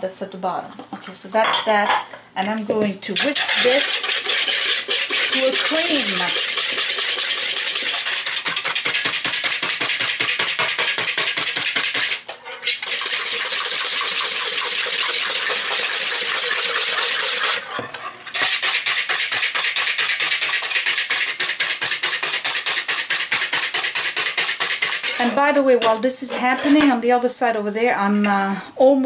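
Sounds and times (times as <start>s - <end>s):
whisk beating eggs in bowl: 3.1s - 27.0s.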